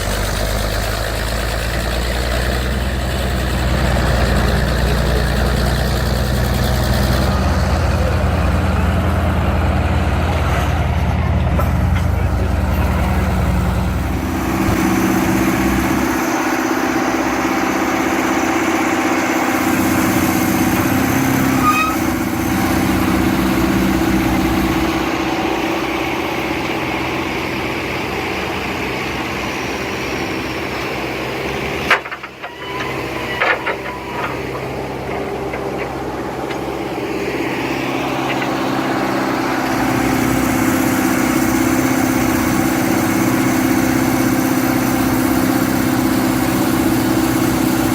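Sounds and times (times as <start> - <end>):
heavy machine engine running: 0.0 - 47.9.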